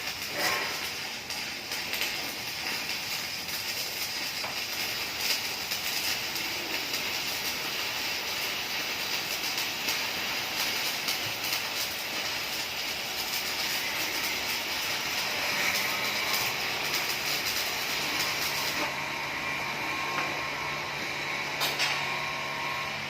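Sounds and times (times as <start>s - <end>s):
sharp welding pops: 0.0s - 18.9s, 21.5s - 22.2s
arc welding crackling hiss: 0.0s - 23.0s.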